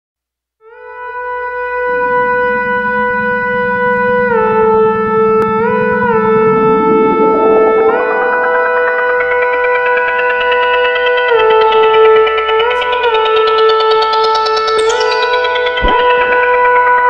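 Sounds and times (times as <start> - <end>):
low music accompaniment: 0.6 - 17.0
synthetic lead tone: 1.3 - 17.0.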